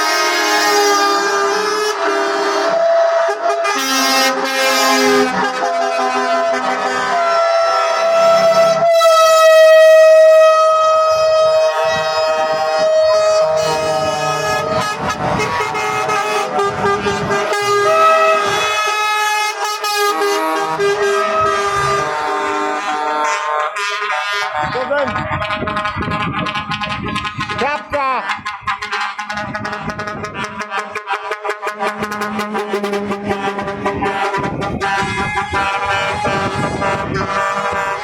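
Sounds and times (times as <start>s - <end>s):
truck air horns blaring: 0.0s - 38.0s.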